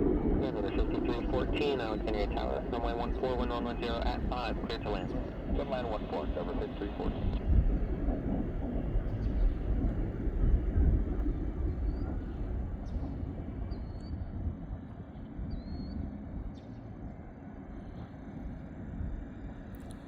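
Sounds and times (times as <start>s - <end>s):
distant jet engine rumble: 0.0s - 20.0s.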